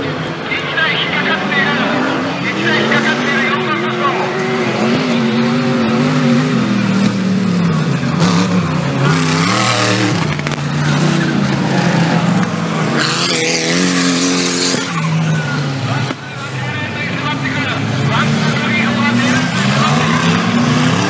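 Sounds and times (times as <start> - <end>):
race vehicle engine revving: 0.0 - 21.0.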